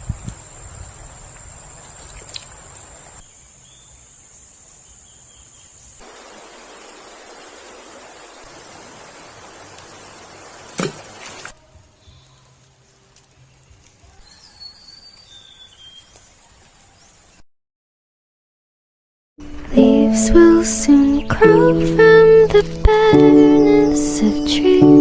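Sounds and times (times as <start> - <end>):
outdoor ambient hiss: 0.0 - 17.4, 19.4 - 25.0.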